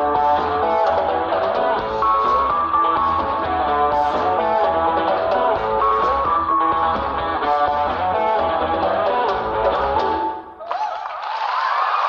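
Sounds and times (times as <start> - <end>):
live rock band playing: 0.0 - 10.5
lead guitar bending notes: 0.0 - 10.6.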